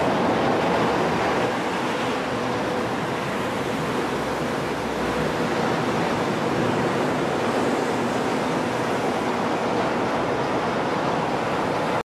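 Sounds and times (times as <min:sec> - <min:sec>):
monorail train passing overhead: 0:00.0 - 0:12.0.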